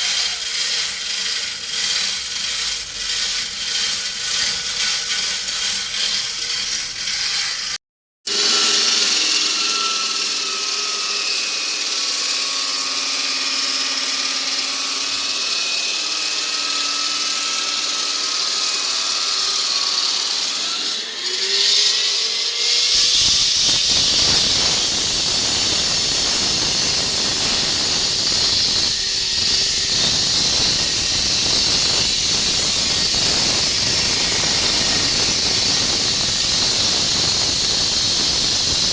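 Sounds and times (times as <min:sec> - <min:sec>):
concrete-cutting saw whining: 0:00.0 - 0:38.9.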